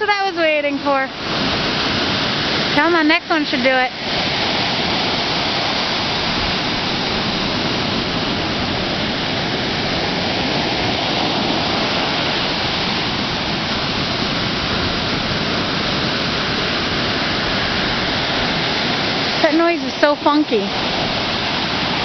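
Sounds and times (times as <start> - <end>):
ocean surf breaking on sand: 0.0 - 22.0.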